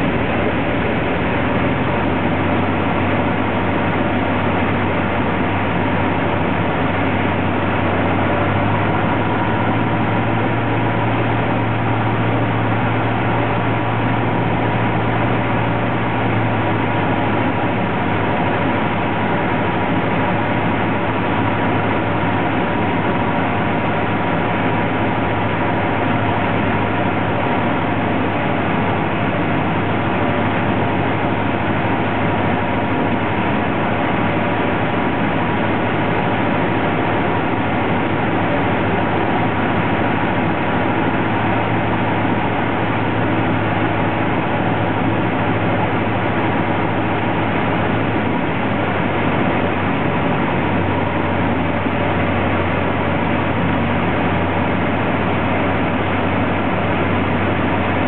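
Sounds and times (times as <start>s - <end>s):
small plane engine and propeller drone: 0.0s - 58.0s.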